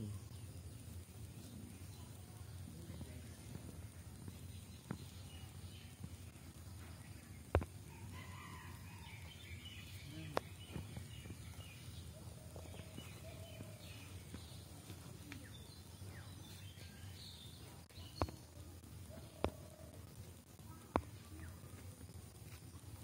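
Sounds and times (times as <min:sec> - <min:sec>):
small birds chirping faintly: 0:00.0 - 0:23.0.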